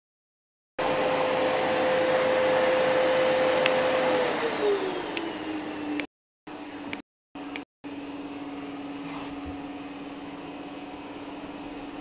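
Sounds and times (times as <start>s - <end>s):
vacuum cleaner running: 0.8s - 12.0s.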